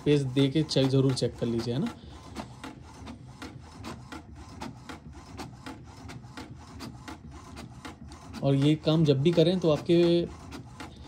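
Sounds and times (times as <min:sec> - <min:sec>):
inkjet printer ticking: 0:00.0 - 0:11.0
paper feeding out: 0:00.0 - 0:11.0.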